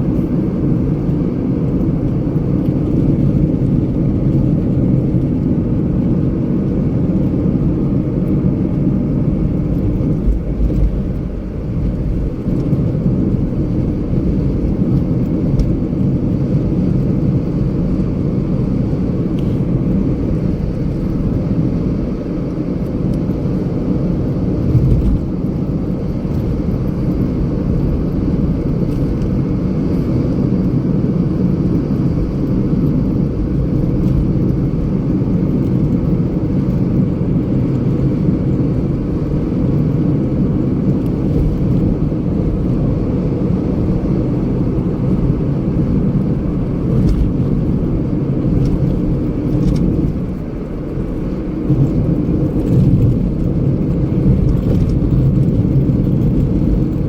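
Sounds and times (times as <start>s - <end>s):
vehicle rumbling: 0.0s - 57.0s.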